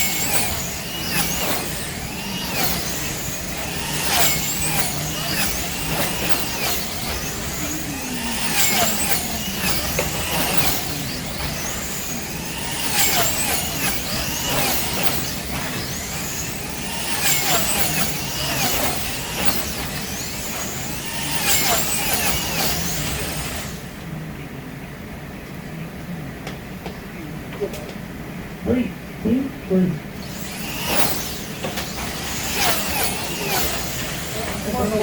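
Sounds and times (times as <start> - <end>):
slot car electric motors whining: 0.0 - 28.5, 30.0 - 35.0.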